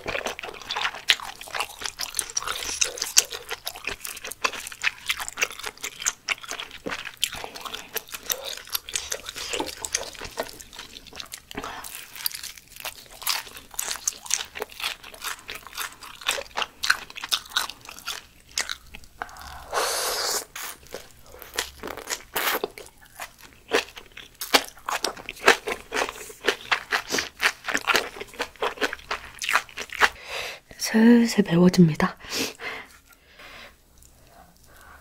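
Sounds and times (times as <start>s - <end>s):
crunchy chewing: 0.0s - 19.6s, 20.4s - 30.2s.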